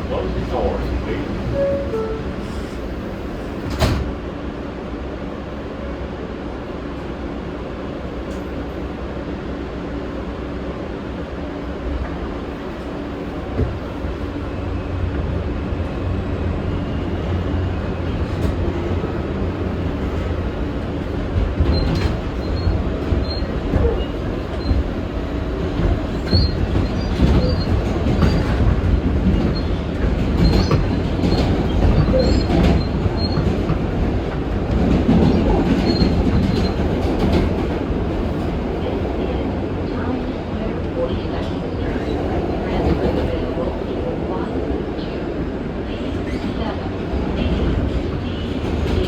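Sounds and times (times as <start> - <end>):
subway wheels rumbling on track: 0.0 - 49.0.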